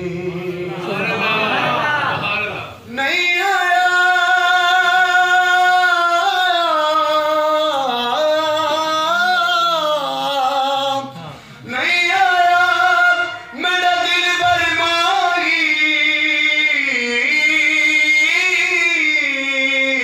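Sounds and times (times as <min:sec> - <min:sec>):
man singing into a microphone: 0:02.8 - 0:20.0.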